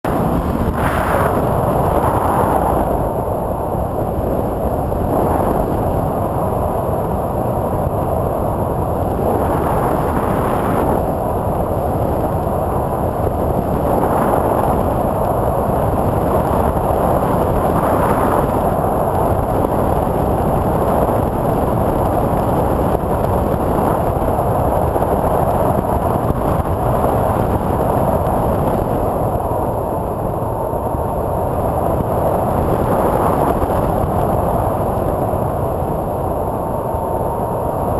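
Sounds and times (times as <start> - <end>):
wind on microphone: 0.0 - 37.9.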